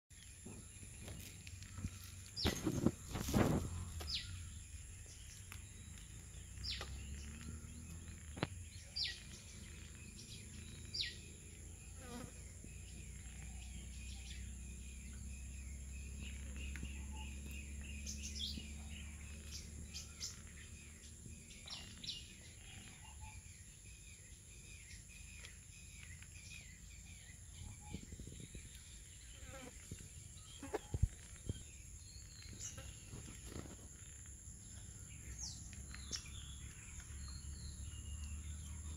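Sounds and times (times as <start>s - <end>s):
bird chirps: 0.1s - 38.9s.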